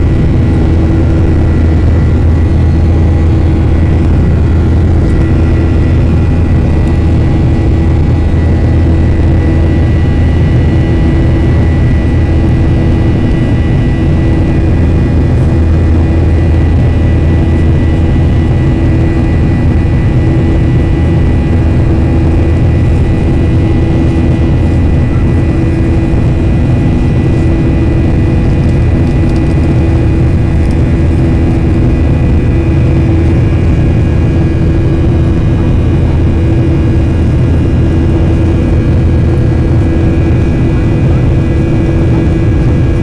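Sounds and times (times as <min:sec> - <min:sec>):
jet airliner cabin drone: 0:00.0 - 0:43.0.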